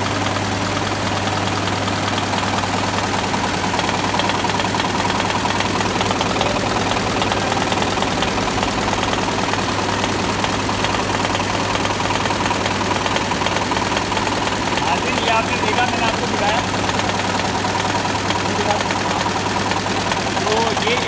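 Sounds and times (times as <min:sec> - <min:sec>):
machine low hum: 0:00.0 - 0:20.7
embroidery machine needle clatter: 0:00.0 - 0:21.0.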